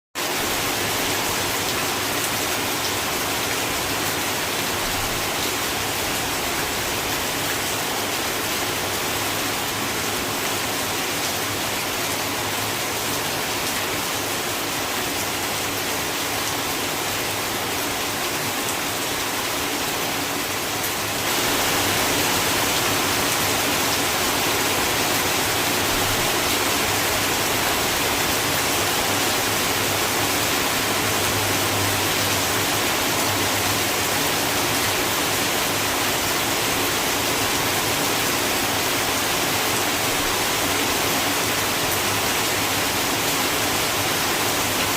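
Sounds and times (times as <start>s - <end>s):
heavy rain on a metal roof: 0.2s - 44.9s.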